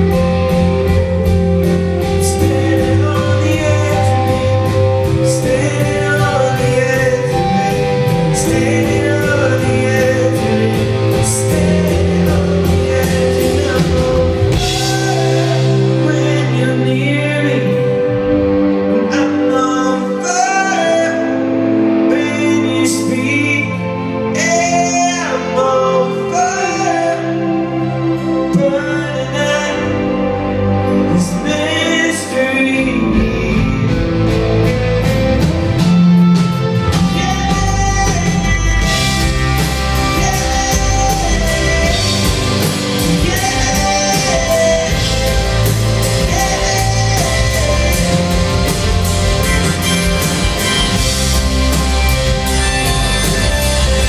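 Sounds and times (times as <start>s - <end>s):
bass guitar: 0.0s - 54.0s
drums: 0.0s - 54.0s
electric guitar: 0.0s - 54.0s
person singing: 0.0s - 54.0s.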